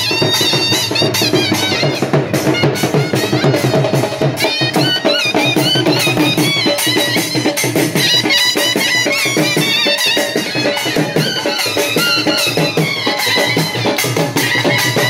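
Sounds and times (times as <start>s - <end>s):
dhol drum fast rhythm: 0.0s - 15.0s
shehnai folk melody: 0.0s - 15.0s.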